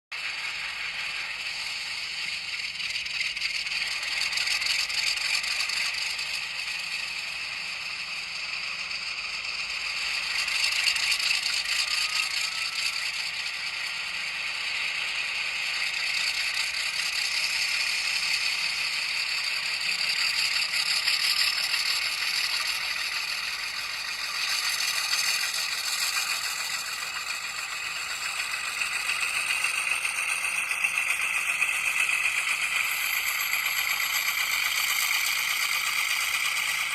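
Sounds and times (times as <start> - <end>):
model train wagons rattling on track: 0.2 - 36.9.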